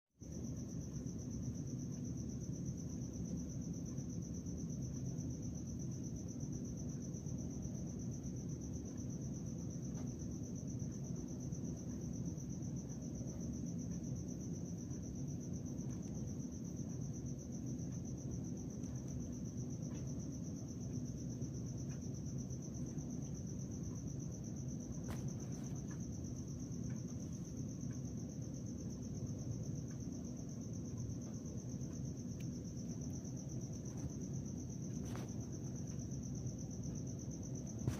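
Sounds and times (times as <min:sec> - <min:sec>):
crickets trilling: 0:00.2 - 0:37.9
low background rumble: 0:00.2 - 0:37.9.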